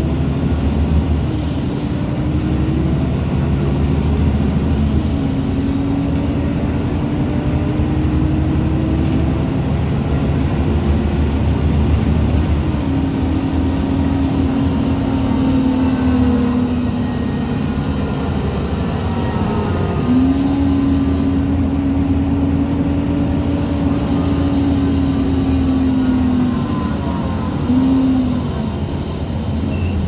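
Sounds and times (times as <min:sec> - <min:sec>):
low engine and road rumble: 0:00.0 - 0:30.0.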